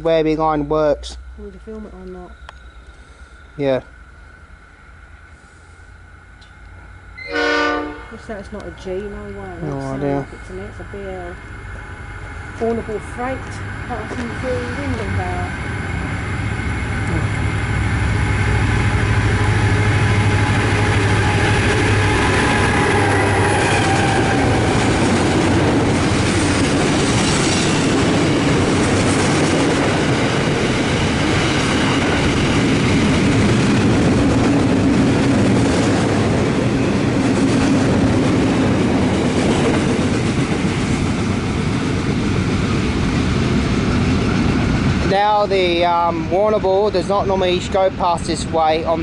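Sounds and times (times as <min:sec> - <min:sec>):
locomotive engine: 0:00.0 - 0:49.0.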